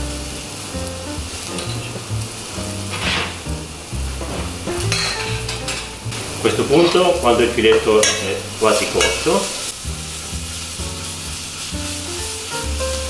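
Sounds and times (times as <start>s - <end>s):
background music with bass notes: 0.0s - 13.0s
meat sizzling in a pan: 0.0s - 13.0s.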